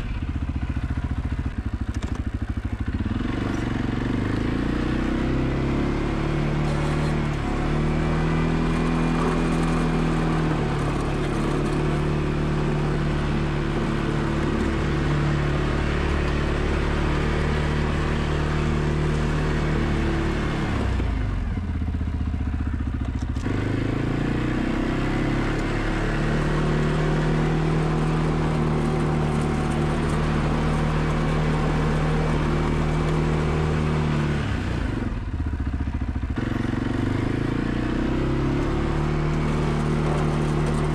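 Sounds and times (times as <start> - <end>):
atv engine plowing snow: 0.0 - 40.9.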